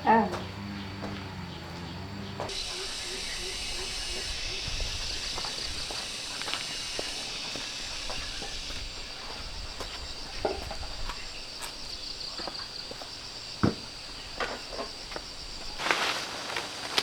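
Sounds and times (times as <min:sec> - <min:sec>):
insects chirring: 0:00.0 - 0:17.0
footsteps: 0:00.3 - 0:17.0.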